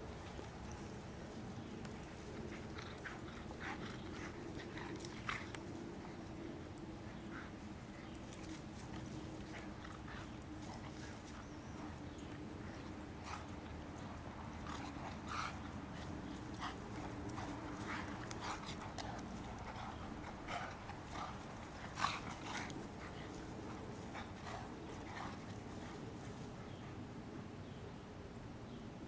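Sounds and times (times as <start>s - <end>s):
dogs play-fighting: 0.0s - 27.5s.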